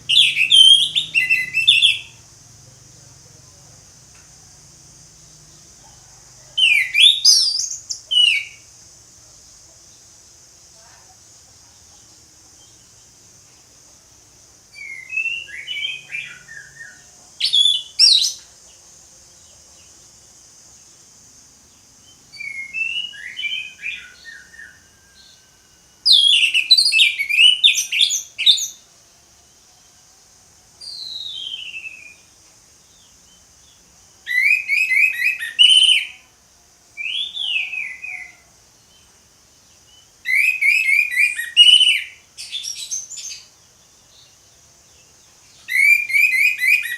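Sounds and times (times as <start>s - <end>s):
faint high hiss: 0.0s - 46.9s.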